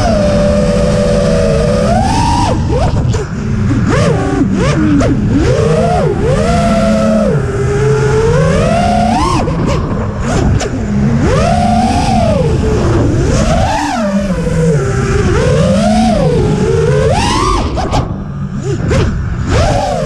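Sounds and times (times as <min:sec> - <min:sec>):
low rushing noise: 0:00.0 - 0:20.0
quadcopter motors whining: 0:00.0 - 0:20.0.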